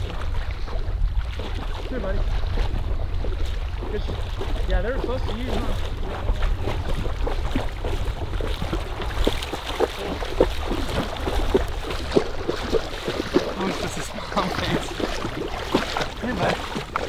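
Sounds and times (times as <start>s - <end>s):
water splashing from wading: 0.0s - 17.0s
wind rumble on microphone: 0.0s - 17.0s.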